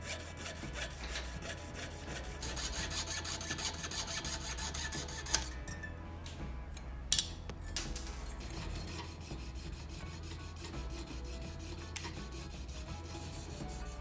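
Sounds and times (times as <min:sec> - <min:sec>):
abrasive rasping: 0:00.0 - 0:05.7, 0:08.2 - 0:14.0
quiet background music: 0:00.0 - 0:14.0.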